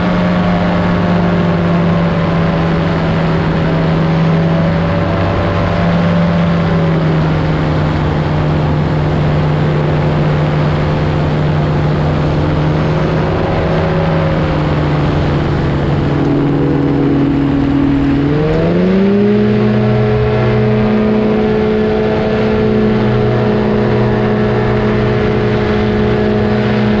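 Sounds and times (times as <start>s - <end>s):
engine and propeller running: 0.0s - 27.0s.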